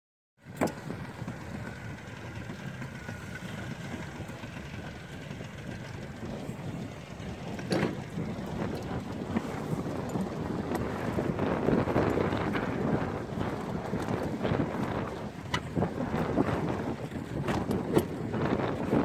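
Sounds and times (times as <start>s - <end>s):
outboard motor running: 0.4s - 19.0s
wind on microphone: 0.4s - 19.0s.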